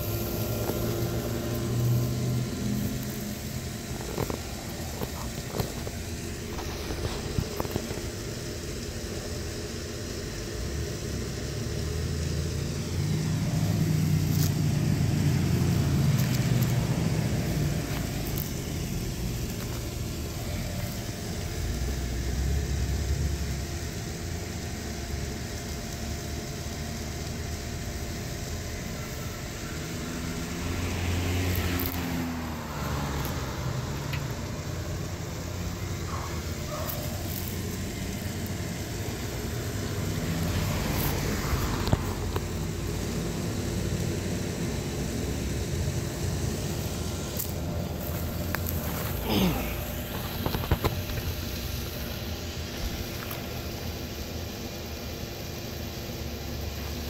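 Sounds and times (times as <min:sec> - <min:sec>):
low engine rumble: 0:00.0 - 0:09.3, 0:10.8 - 0:23.7, 0:27.9 - 0:54.5
faint steady hum: 0:00.0 - 0:57.0.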